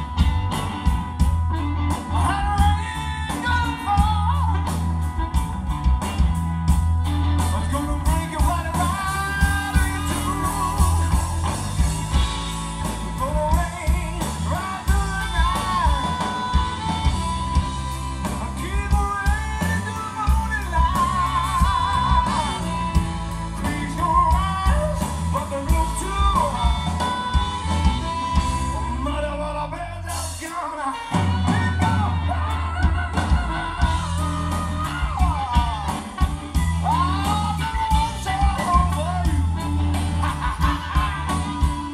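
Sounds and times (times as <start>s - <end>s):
blues band playing live: 0.0s - 41.9s
harmonica lead lines: 0.0s - 41.9s.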